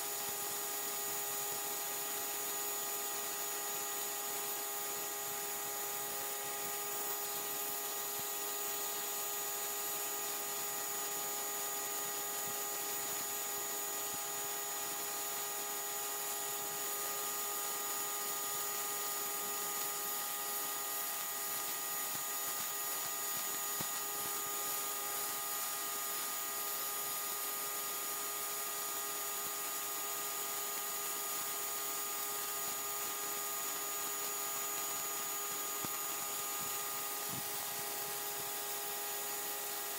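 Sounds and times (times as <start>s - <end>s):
pressure washer motor whine: 0.0s - 39.9s
water jet spraying on concrete: 0.2s - 39.9s.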